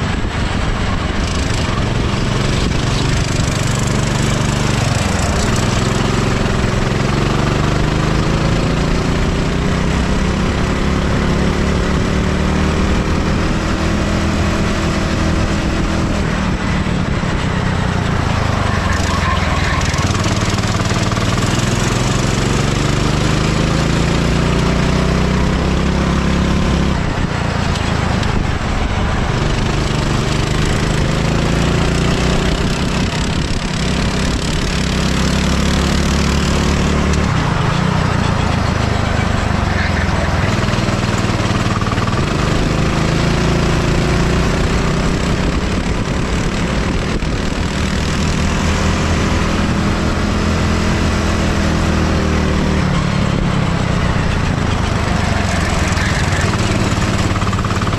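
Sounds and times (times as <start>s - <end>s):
go-kart engine accelerating: 0.0s - 57.9s.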